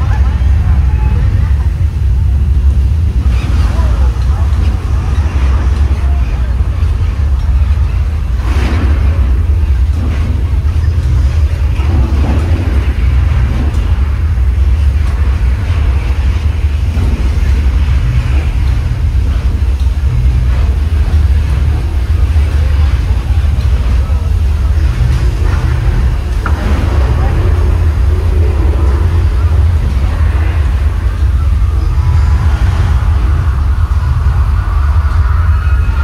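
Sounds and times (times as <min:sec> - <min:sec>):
tram rumbling: 0:00.0 - 0:36.0.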